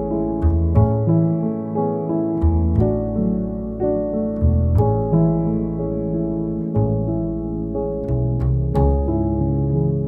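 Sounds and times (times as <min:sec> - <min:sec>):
plucked notes: 0:00.0 - 0:10.0
sustained piano chords: 0:00.0 - 0:10.0.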